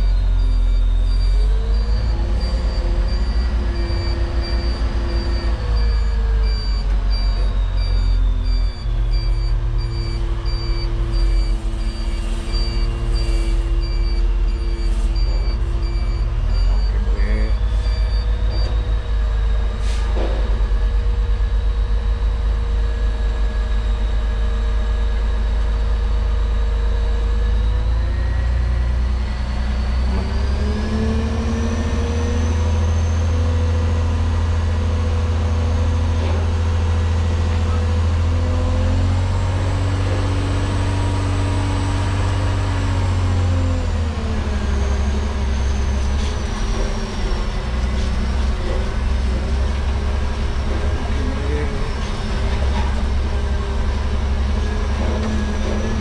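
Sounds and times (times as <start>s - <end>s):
diesel truck engine drone: 0.0s - 56.0s.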